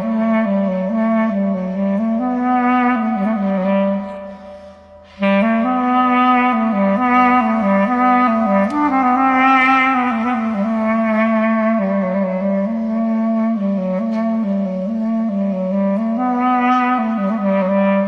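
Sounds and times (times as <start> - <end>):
slow wind instrument melody: 0.0 - 18.0.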